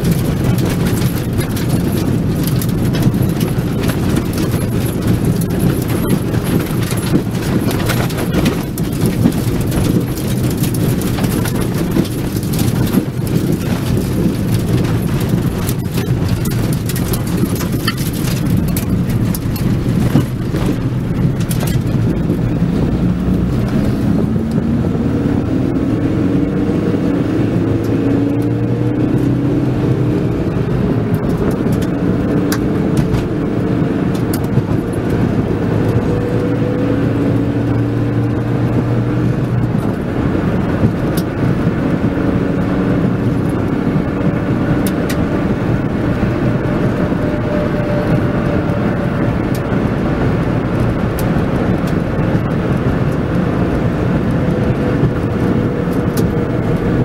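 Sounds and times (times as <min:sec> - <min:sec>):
car engine from inside: 0:00.0 - 0:57.0
road noise: 0:00.0 - 0:57.0.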